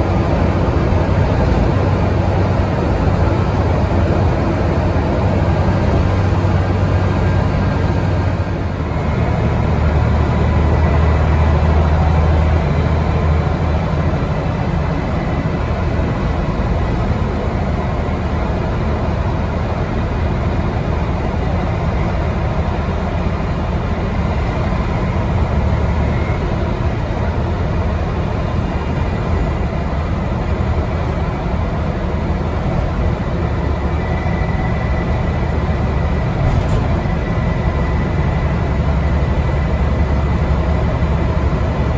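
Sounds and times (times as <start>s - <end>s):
bus diesel engine running hard: 0.0s - 41.9s.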